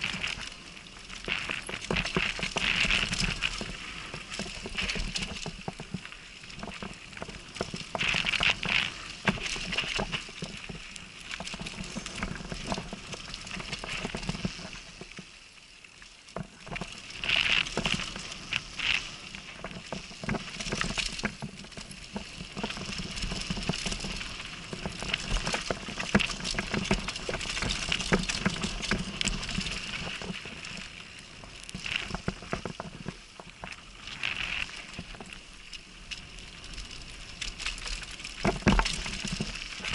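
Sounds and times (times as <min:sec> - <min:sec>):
bike rattling: 0:00.0 - 0:15.1, 0:16.4 - 0:39.9.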